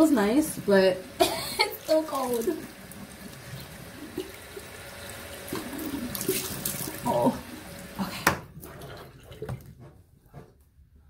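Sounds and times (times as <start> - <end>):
tap water running into sink: 0.0 - 9.8.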